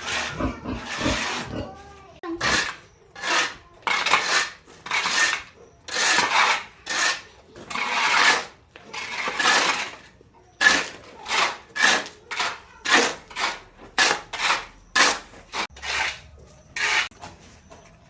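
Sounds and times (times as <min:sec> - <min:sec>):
rough scraping strokes: 0:00.0 - 0:17.2.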